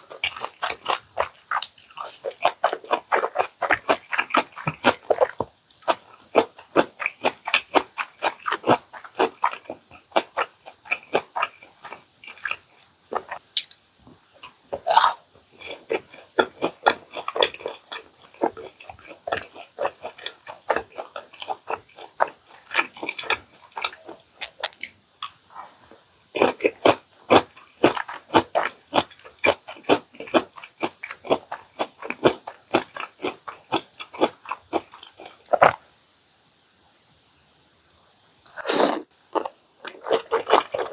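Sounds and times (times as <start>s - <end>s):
close chewing and biting: 0.0s - 13.8s, 14.4s - 35.8s, 38.5s - 40.9s.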